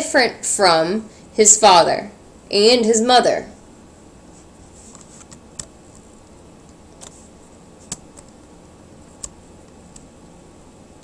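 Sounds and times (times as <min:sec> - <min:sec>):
faint room tone hiss: 0:00.0 - 0:11.0.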